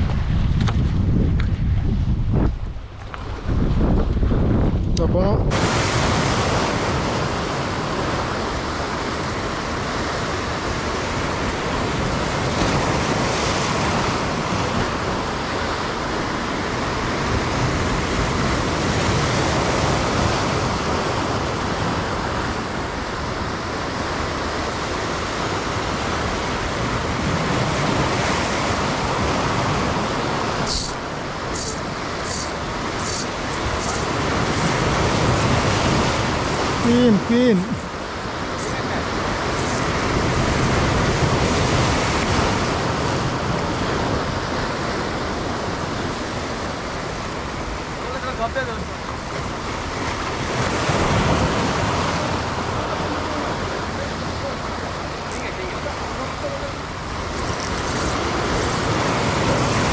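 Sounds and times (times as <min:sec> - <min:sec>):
wind on microphone: 0:00.0 - 0:48.0, 0:56.8 - 0:59.9
sea: 0:00.0 - 0:59.9.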